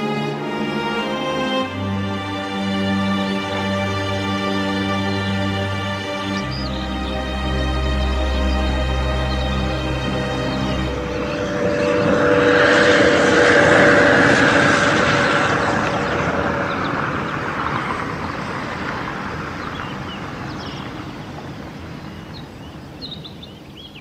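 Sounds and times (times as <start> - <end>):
car driving past: 0.4 - 21.7.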